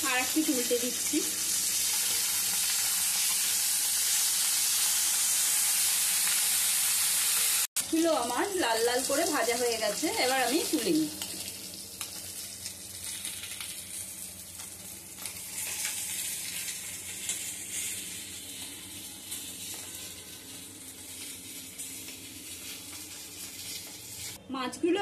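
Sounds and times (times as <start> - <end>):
fish sizzling in hot oil: 0.0 - 24.4.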